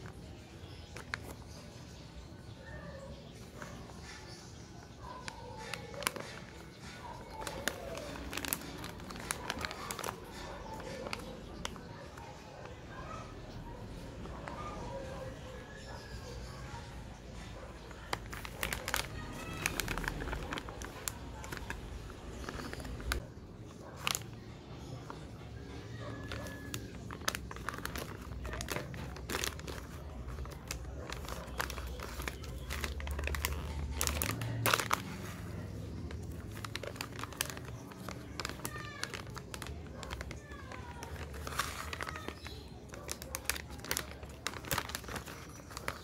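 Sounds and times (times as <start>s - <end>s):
packaging crinkling: 0.0s - 2.1s, 3.1s - 12.8s, 17.2s - 46.0s.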